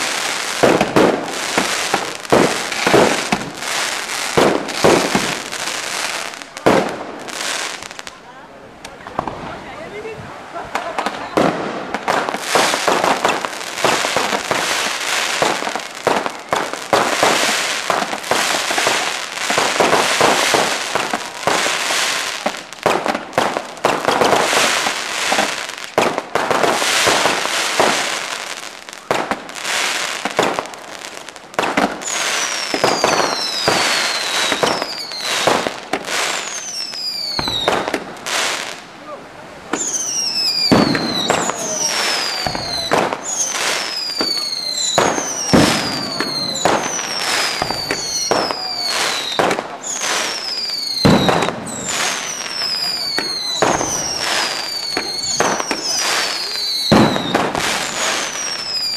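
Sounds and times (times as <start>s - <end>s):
fireworks whistles falling in pitch: 0.0s - 8.1s, 11.0s - 38.8s, 39.7s - 58.9s
fireworks bangs and crackling: 0.0s - 58.9s.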